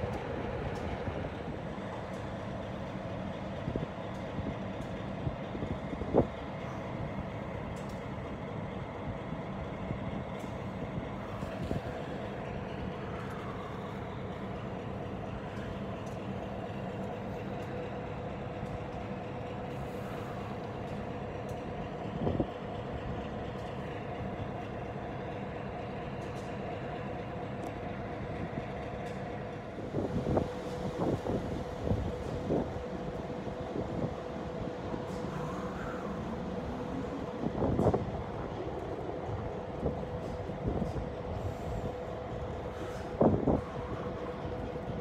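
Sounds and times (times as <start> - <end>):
train rumbling: 0.0 - 45.0.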